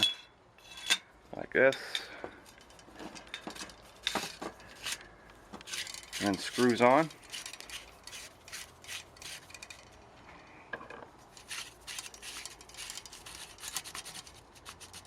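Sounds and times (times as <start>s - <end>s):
metal scraping on metal: 0.0s - 1.1s, 1.7s - 10.0s, 11.2s - 15.0s.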